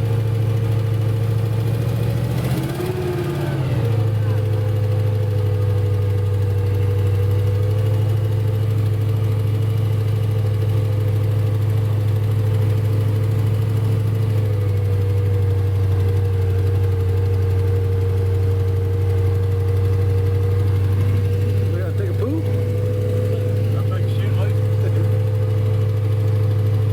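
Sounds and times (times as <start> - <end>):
engine droning steadily: 0.0 - 26.9.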